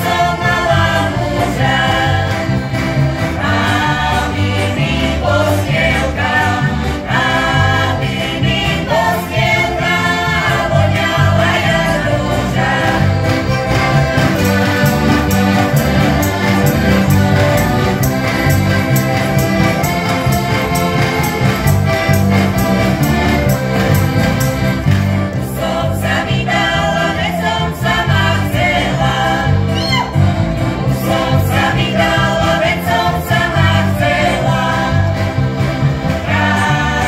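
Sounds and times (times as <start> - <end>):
group singing in chorus: 0.0 - 19.5, 23.6 - 29.8, 30.8 - 37.0
accordions playing: 0.0 - 37.0
bass guitar line: 0.0 - 37.0.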